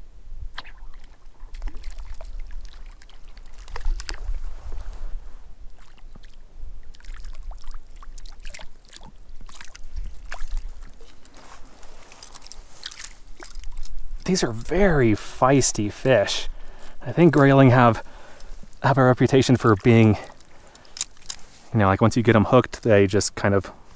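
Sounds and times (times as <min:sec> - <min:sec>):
water splashing: 0:00.5 - 0:16.2, 0:17.1 - 0:22.9.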